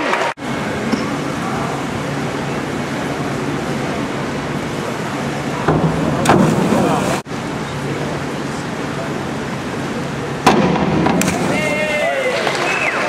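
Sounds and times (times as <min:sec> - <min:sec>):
crowd chatter: 0:00.0 - 0:13.0
crowd noise burst: 0:00.0 - 0:13.0.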